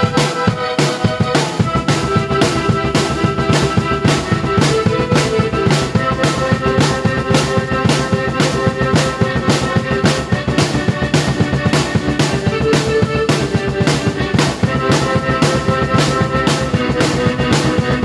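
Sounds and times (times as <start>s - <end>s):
drum kit beat: 0.0s - 18.0s
keyboard chords: 0.0s - 18.0s.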